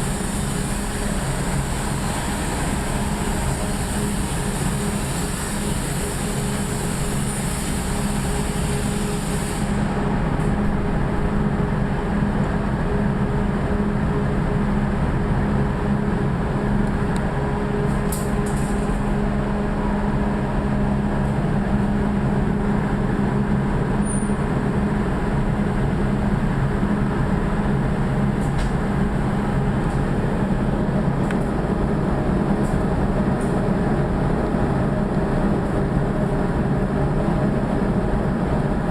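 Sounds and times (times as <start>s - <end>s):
factory machinery humming: 0.0s - 38.9s.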